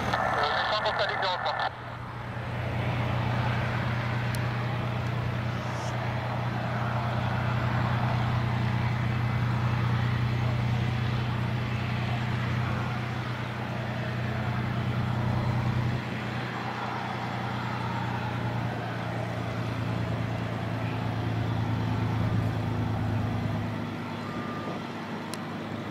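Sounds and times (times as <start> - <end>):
jet engine roar: 0.0 - 25.9.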